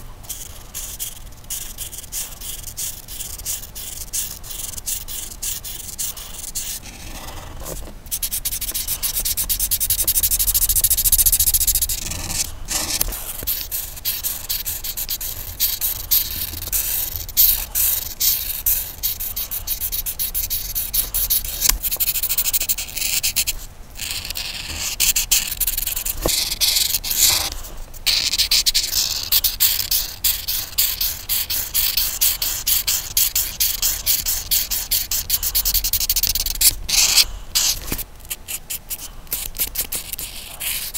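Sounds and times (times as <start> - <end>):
coloring tool scratching paper: 0.0 - 40.9.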